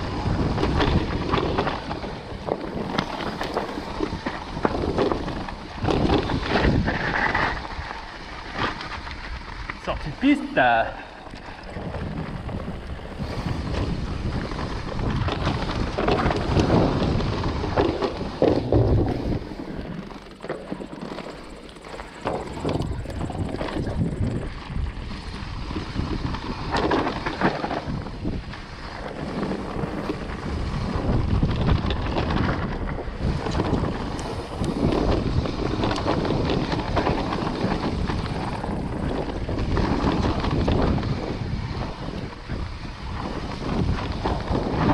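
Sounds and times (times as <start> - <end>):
bike knocks and rattles: 0.0 - 9.9, 11.2 - 44.9
bike tyre noise: 0.0 - 44.9
wind on camera microphone: 0.0 - 44.9.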